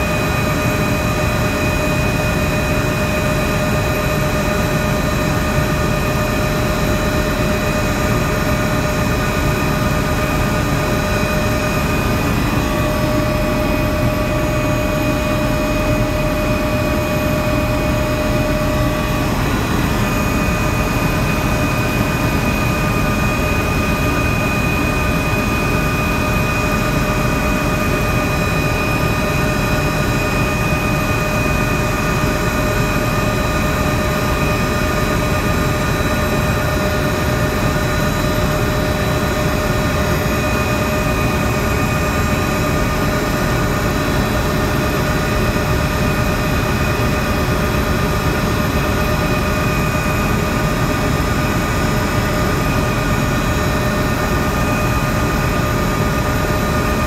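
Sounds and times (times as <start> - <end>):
helicopter turbine and rotor drone: 0.0 - 57.0.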